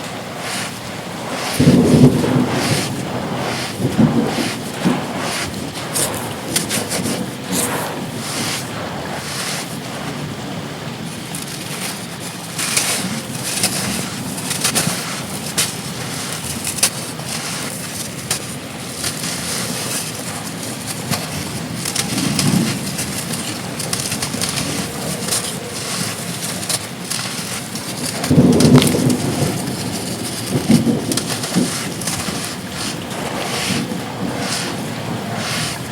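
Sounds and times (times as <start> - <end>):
rain: 0.0 - 35.9
rushing wind: 0.0 - 35.9
sand chunks crunching: 0.0 - 35.9.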